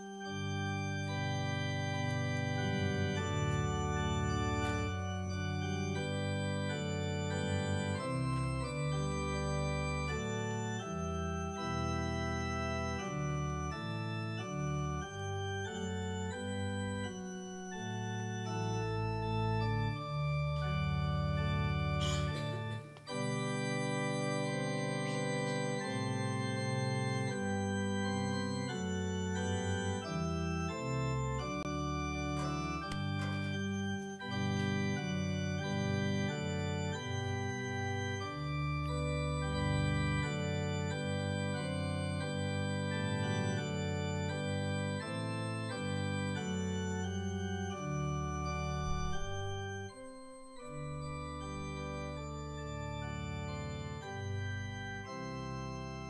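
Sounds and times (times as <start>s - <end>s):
church organ chords: 0.0s - 56.0s.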